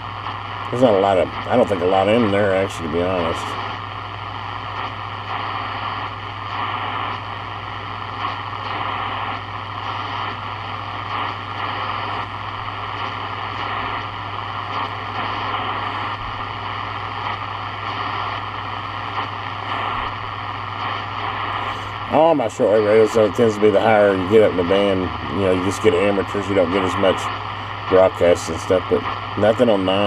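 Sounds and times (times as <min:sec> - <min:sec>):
constant low hum: 0:00.0 - 0:30.0
radio static hiss: 0:00.0 - 0:30.0.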